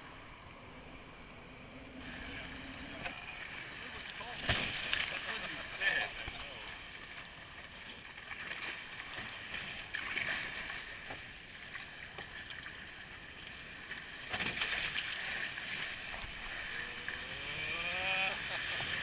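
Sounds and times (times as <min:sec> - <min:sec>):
water splashing against hulls: 0:01.6 - 0:19.0.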